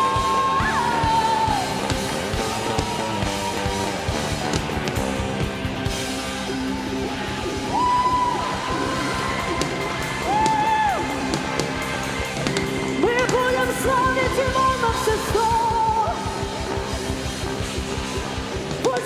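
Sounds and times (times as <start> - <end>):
electric guitar: 0.0 - 19.0
steady drum beat: 0.0 - 19.0.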